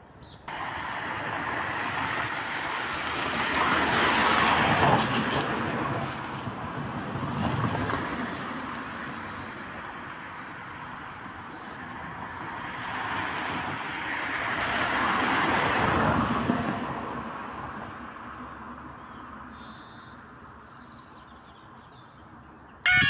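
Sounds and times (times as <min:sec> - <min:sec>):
road vehicle passing: 0:00.5 - 0:19.6.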